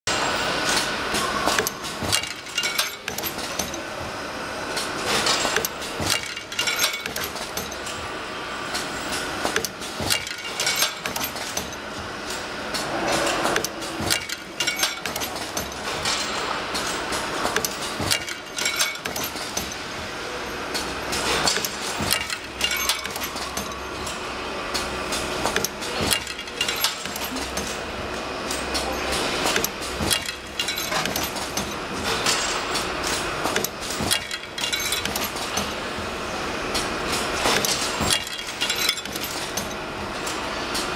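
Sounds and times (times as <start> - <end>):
metallic machine clacks: 0.1 - 4.0, 4.7 - 8.1, 8.7 - 40.9.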